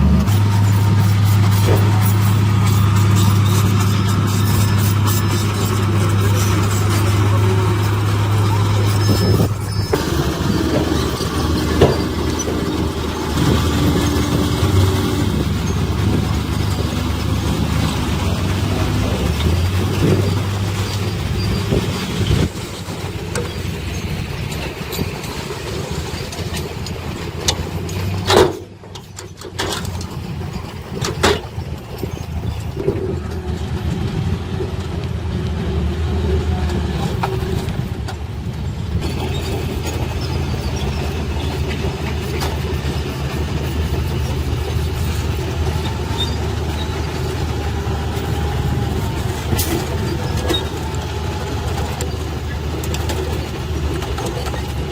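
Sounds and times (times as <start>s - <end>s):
heavy diesel machinery engines: 0.0s - 54.9s.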